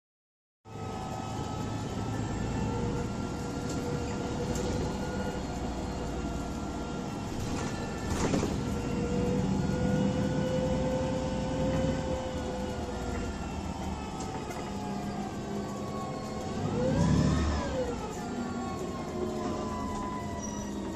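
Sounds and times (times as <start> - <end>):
bus engine and road rumble: 0.7 - 20.9
steady whine: 0.7 - 20.9.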